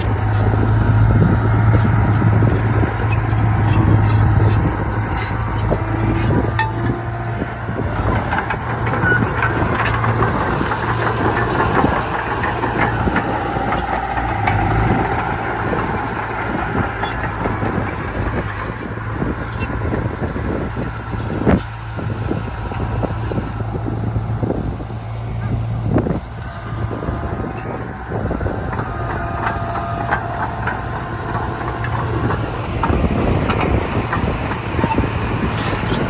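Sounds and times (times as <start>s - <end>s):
machinery clanks and knocks: 0.0s - 21.8s, 26.3s - 36.0s
heavy diesel engine drone: 0.0s - 36.0s.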